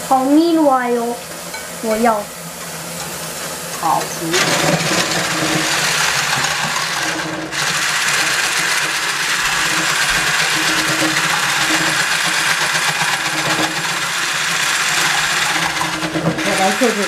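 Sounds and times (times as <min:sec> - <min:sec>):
hand blender running: 0:00.0 - 0:17.0.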